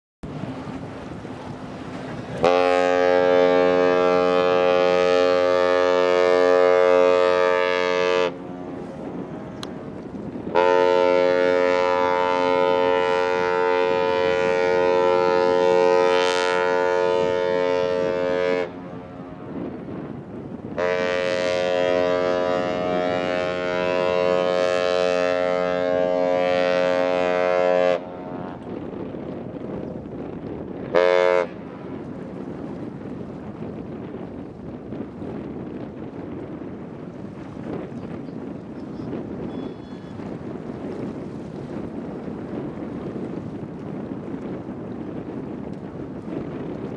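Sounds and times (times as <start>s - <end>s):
wind noise on microphone: 0.2s - 46.9s
ship's horn long blasts: 0.3s - 29.7s, 30.6s - 32.8s, 39.1s - 46.9s.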